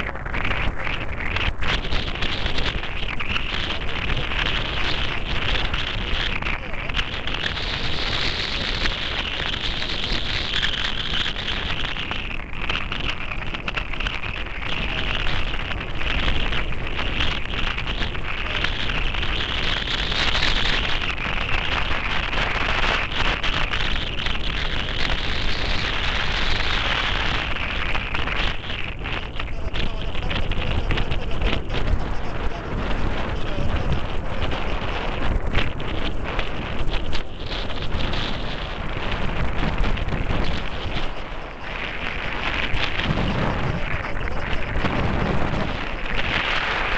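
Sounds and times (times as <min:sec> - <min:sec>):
jet airliner roar: 0:00.0 - 0:46.9
wind buffeting microphone: 0:00.0 - 0:46.9.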